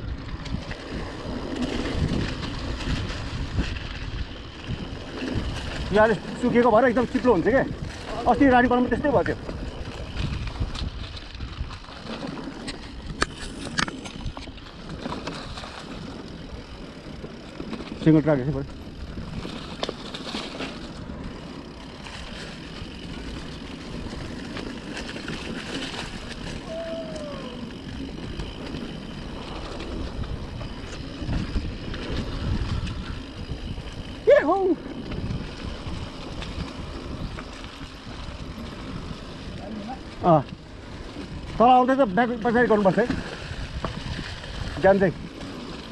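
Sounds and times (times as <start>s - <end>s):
bike rattling: 0.0s - 45.9s
wind buffeting microphone: 0.0s - 45.9s.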